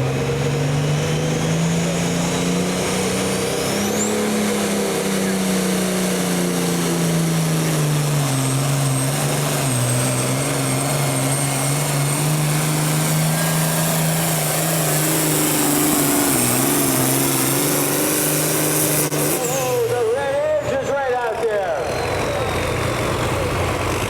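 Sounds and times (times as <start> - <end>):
engine running hard under load: 0.0 - 24.0.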